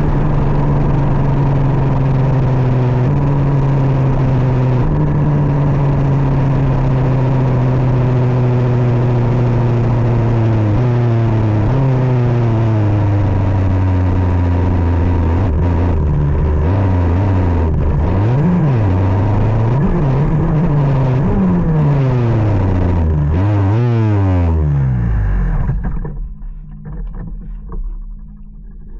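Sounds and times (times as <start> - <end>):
kart engine revving: 0.0 - 26.2.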